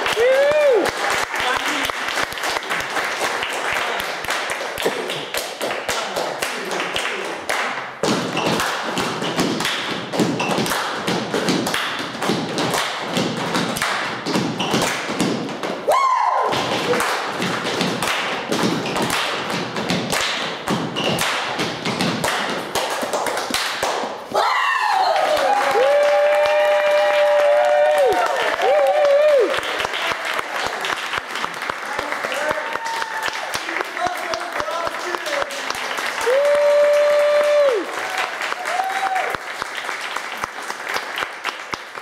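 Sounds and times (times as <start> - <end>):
hands clapping and slapping: 0.0 - 24.2, 25.1 - 42.0.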